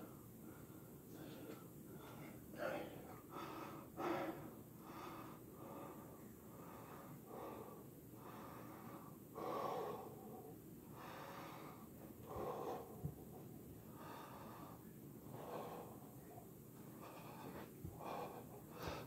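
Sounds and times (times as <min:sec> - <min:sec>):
man breathing heavily: 0:00.0 - 0:19.0.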